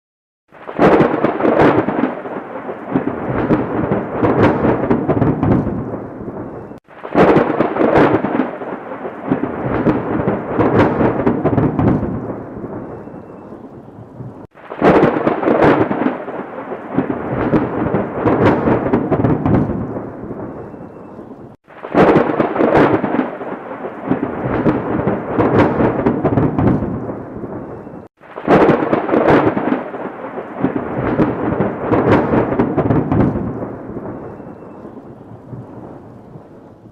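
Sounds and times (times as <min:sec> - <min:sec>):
thunder crack and rumble: 0:00.5 - 0:36.9.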